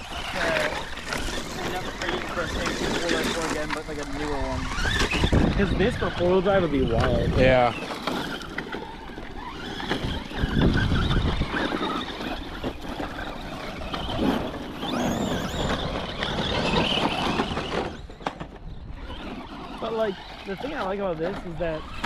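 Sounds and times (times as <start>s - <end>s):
toy cars motor whine: 0.0s - 22.0s
tyres on dirt and gravel: 0.0s - 22.0s.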